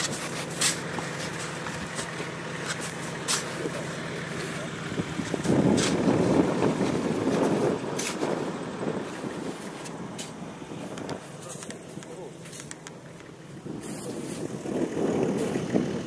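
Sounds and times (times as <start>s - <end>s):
car engine idling: 0.0s - 16.0s
loud rough rumble: 0.0s - 16.0s.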